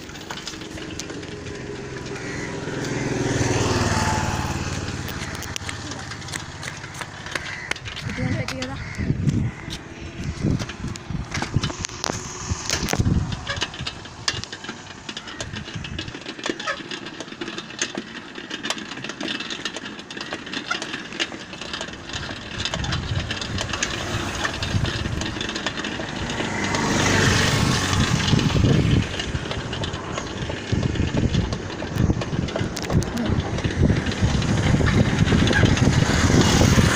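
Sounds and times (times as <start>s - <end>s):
motorbike engine: 0.0s - 36.9s
road and wind noise: 0.0s - 36.9s.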